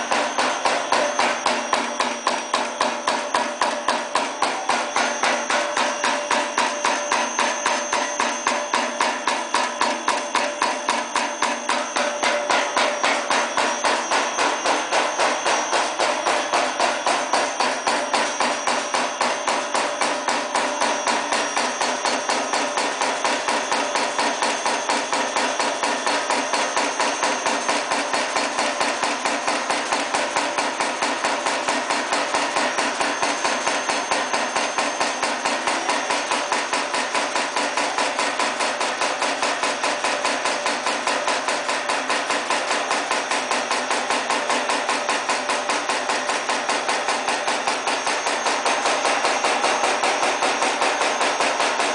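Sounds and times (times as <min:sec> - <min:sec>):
punch press hammering: 0:00.0 - 0:51.9.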